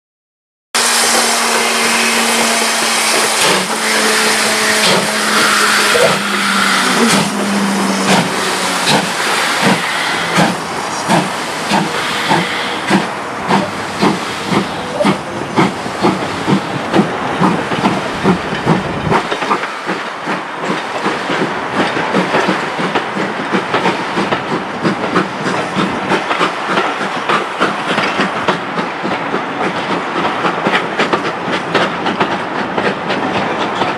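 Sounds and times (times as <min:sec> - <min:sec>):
steam hissing: 0:00.8 - 0:28.9
steam locomotive exhaust beats: 0:00.8 - 0:33.9.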